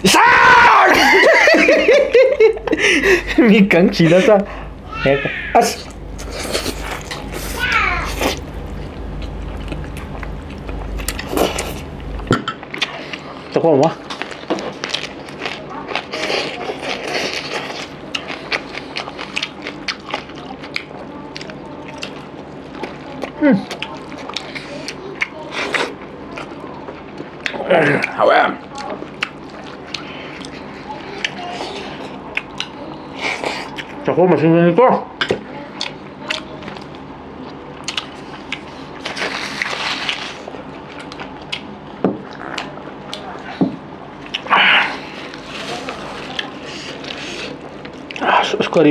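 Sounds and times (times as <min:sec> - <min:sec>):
wet chewing: 0:05.6 - 0:34.0, 0:35.7 - 0:48.8.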